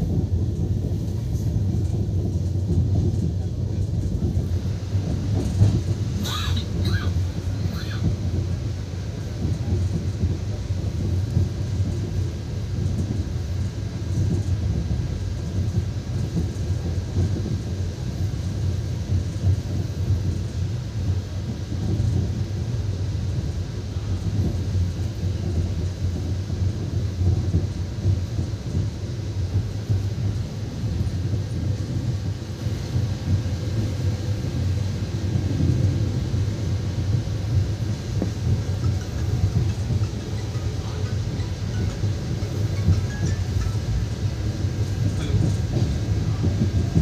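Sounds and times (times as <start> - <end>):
train coach rumbling on track: 0.0 - 47.0.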